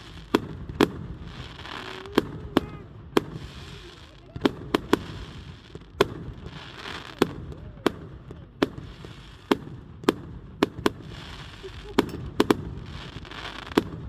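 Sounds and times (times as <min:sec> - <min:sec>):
firework bangs: 0:00.0 - 0:14.0.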